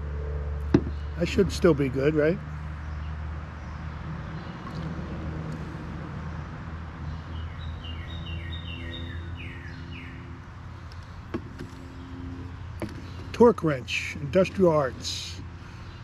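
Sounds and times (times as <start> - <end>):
songbird singing: 0.6 - 16.0.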